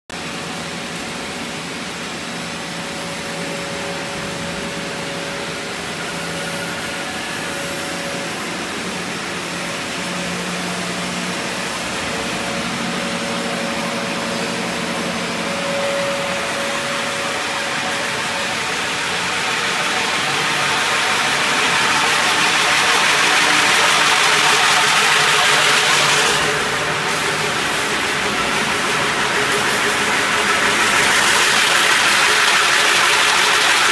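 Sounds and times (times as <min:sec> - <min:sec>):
wire-drawing machines humming: 0:00.1 - 0:33.9
hiss: 0:01.3 - 0:33.9.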